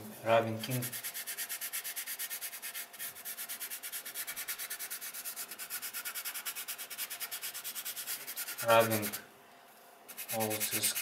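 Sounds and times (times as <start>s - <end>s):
pastel rubbing on sandpaper: 0.6s - 9.2s, 10.1s - 11.0s.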